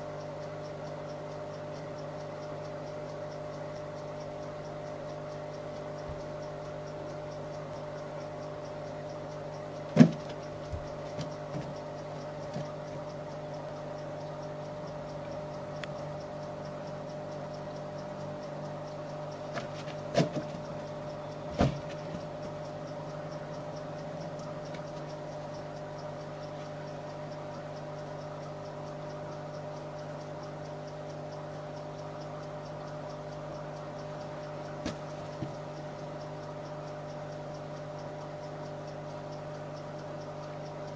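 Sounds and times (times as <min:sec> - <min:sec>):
background hum: 0:00.0 - 0:40.9.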